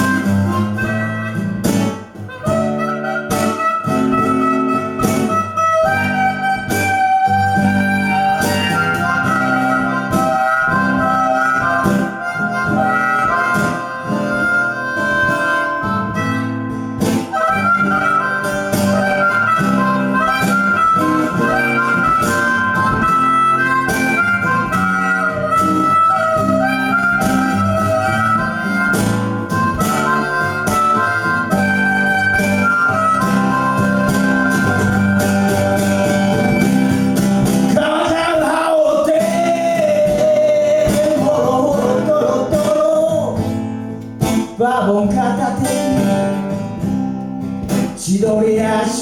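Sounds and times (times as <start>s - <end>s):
harmonica solo: 0.0s - 44.5s
strummed acoustic guitar: 0.0s - 49.0s.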